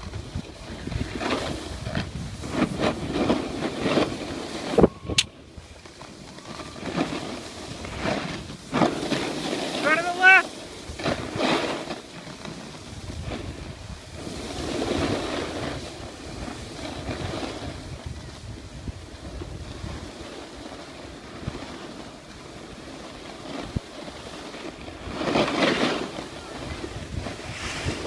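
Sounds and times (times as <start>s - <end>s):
snowboard scraping over snow: 0.0s - 28.0s
wind on microphone: 0.0s - 28.0s.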